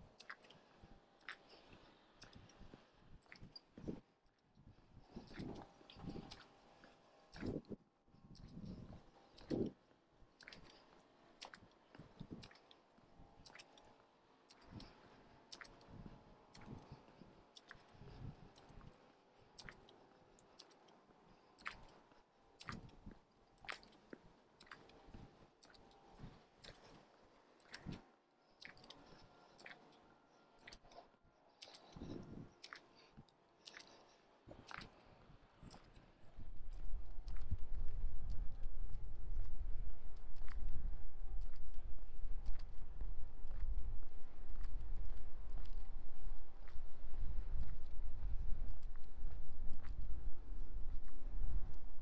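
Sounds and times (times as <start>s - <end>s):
faint footsteps on asphalt: 0.0s - 52.0s.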